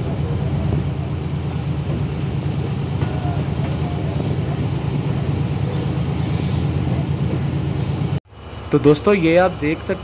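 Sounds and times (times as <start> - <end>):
passenger train wheels rumbling: 0.0 - 10.0.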